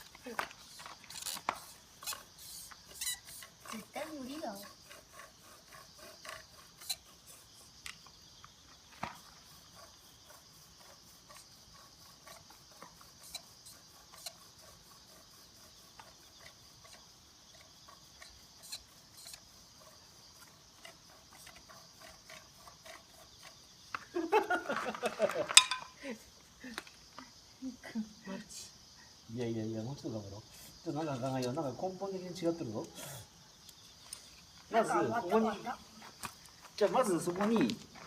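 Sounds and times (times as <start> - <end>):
steady high hiss: 0.0 - 38.0.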